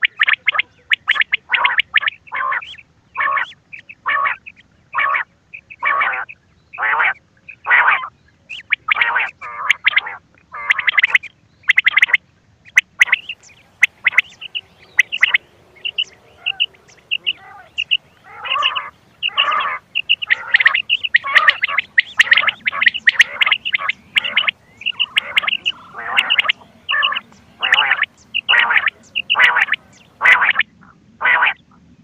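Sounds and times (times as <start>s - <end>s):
recorded quail calls: 0.0s - 31.9s.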